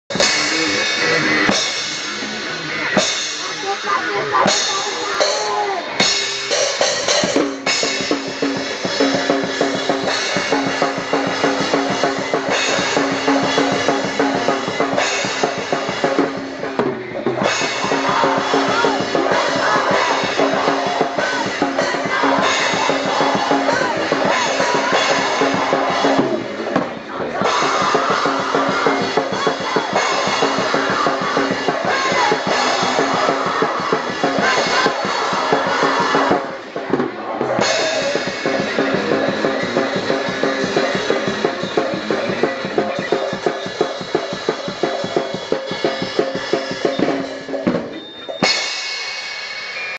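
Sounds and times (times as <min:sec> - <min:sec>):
drum kit fast beat: 0:00.0 - 0:49.9
live rock band playing: 0:00.1 - 0:49.9.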